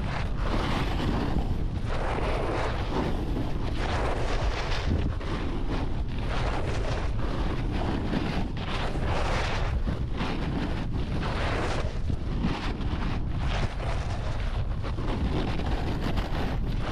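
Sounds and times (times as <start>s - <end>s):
snowboard scraping snow: 0.0s - 16.9s
wind buffeting microphone: 0.0s - 16.9s.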